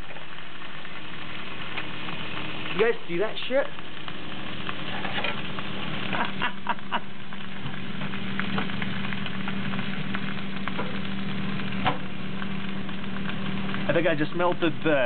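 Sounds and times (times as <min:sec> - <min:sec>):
electrical crackling and sparking: 0:00.0 - 0:15.0
microwave oven humming: 0:00.0 - 0:15.0.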